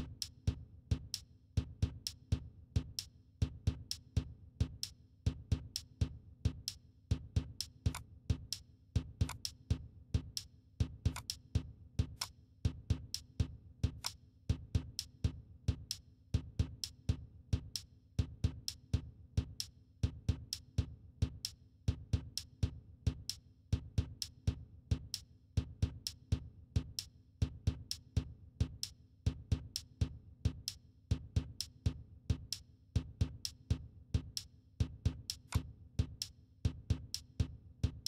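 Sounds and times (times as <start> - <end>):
electronic drum-machine beat: 0.0 - 38.0.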